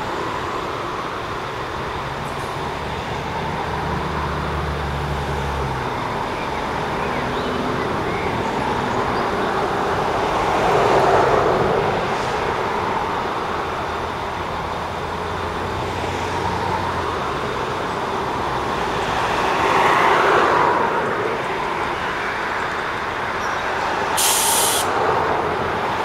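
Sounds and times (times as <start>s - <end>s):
train diesel engine rumbling: 0.0s - 26.0s.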